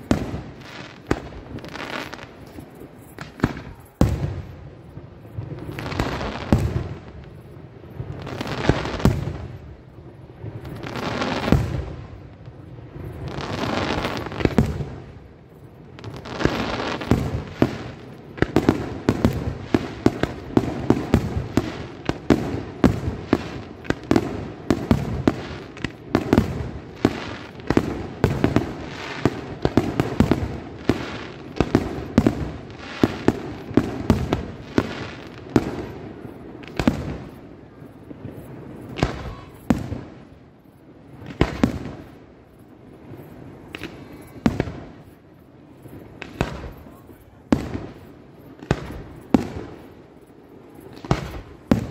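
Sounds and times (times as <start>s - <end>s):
firework shells bursting: 0.0s - 7.4s, 13.0s - 40.4s, 41.1s - 51.9s.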